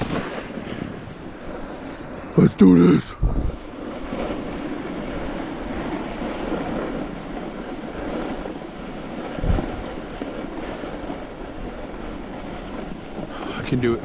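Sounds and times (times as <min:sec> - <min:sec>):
snowboard sliding over snow: 0:00.0 - 0:14.0.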